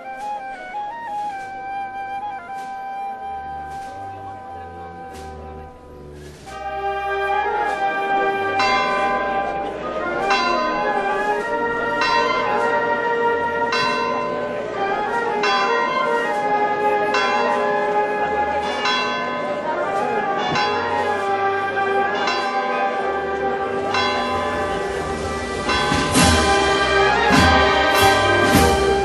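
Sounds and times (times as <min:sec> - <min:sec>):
church bells ringing: 0:03.5 - 0:29.0.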